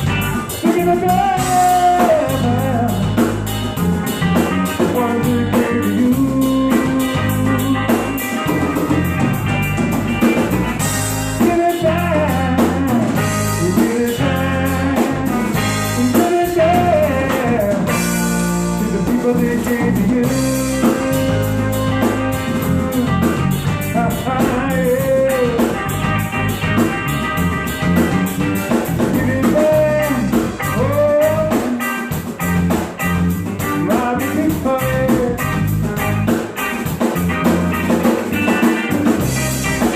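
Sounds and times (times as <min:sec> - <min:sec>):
drum kit: 0:00.0 - 0:39.9
electric guitar lead lines: 0:00.0 - 0:39.9.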